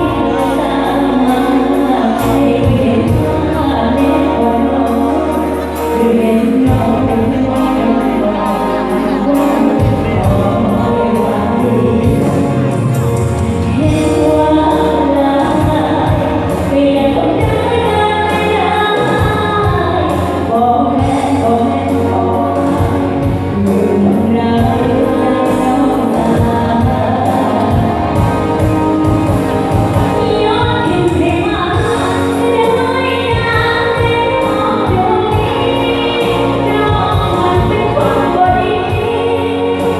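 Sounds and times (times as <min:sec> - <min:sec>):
bass line: 0:00.0 - 0:39.9
live band music: 0:00.0 - 0:39.9
person singing: 0:00.0 - 0:39.9.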